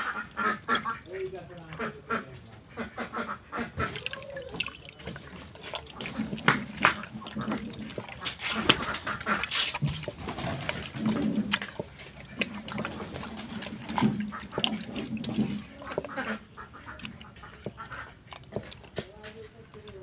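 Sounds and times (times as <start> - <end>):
hand squelching raw meat: 0.0 - 20.0.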